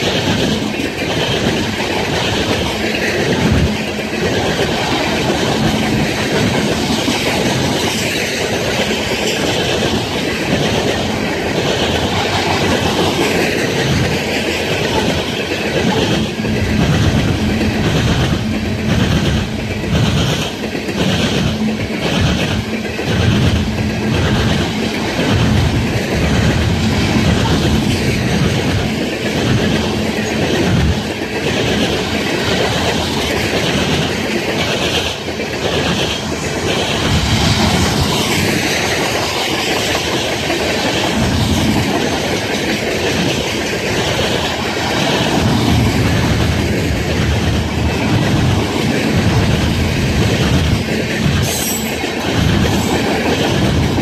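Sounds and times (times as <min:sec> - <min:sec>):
train wheels clattering on track: 0:00.0 - 0:54.0.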